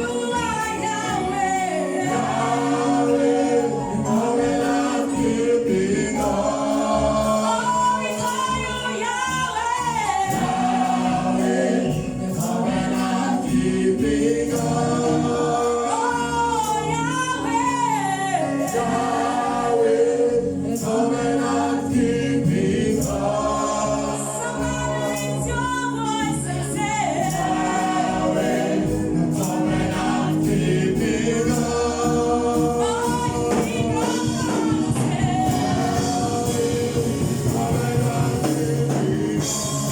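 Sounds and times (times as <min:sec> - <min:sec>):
choir singing gospel with backing: 0:00.0 - 0:39.9.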